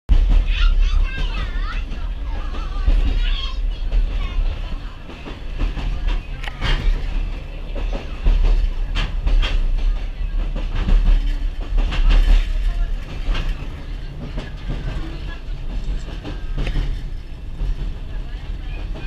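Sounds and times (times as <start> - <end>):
train carriage rumble: 0.1 - 19.0
wheels clacking on rails: 0.1 - 19.0.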